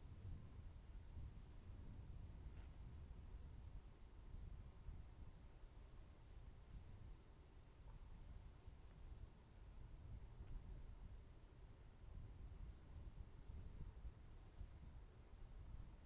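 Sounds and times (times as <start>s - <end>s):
faint cricket chirping: 0.0s - 16.0s
wind rumble on microphone: 0.0s - 16.0s.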